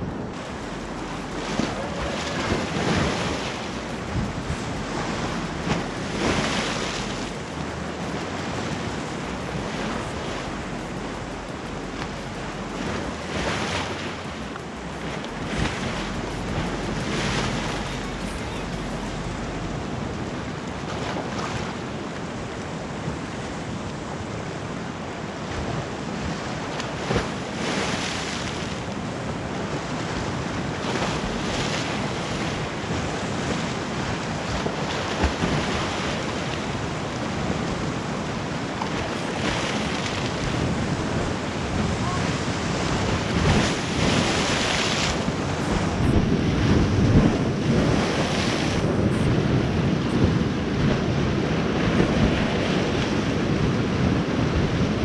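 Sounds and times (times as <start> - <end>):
wind buffeting microphone: 0.0 - 23.8, 29.1 - 55.0
sea waves crashing on rocks: 0.0 - 55.0.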